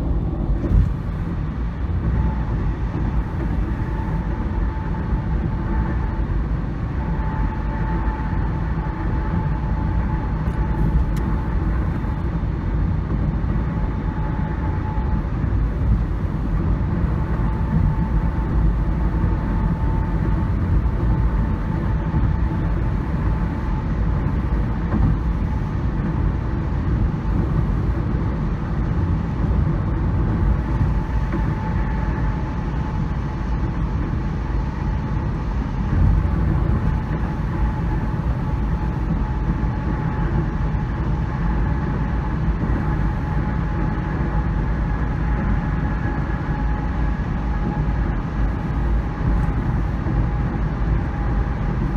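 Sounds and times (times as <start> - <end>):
road vehicle rumble: 0.0 - 51.9.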